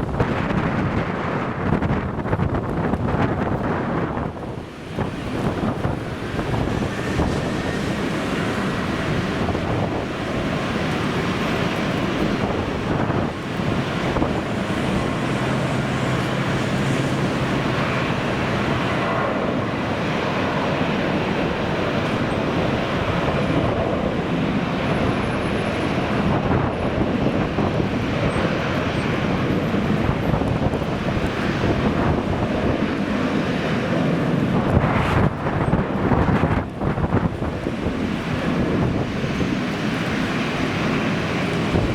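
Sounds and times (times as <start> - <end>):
jet airliner rumble: 0.0 - 41.9
wind buffeting microphone: 0.0 - 41.9.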